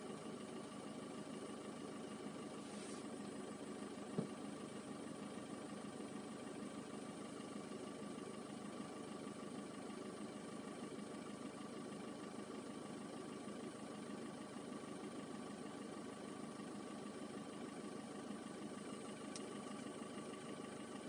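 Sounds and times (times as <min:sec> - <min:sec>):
faint steady whine: 0:00.0 - 0:21.0
car engine humming: 0:01.1 - 0:21.0.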